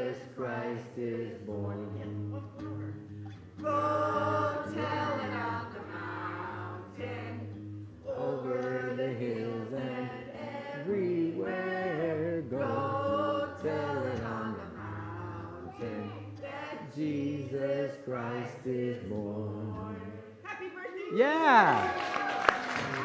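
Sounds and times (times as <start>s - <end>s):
group of people singing: 0.0s - 20.4s.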